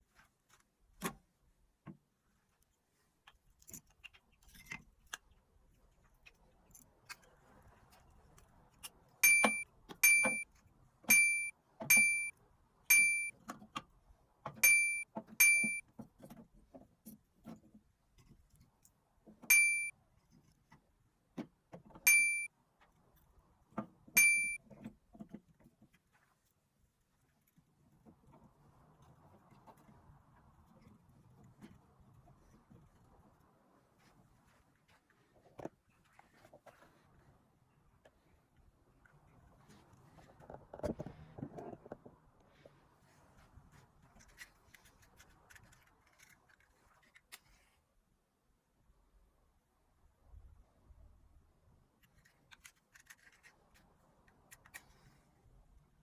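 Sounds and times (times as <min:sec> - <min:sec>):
faint knocks and handling noise: 0:00.0 - 0:11.1, 0:13.3 - 0:22.1, 0:22.7 - 0:47.9.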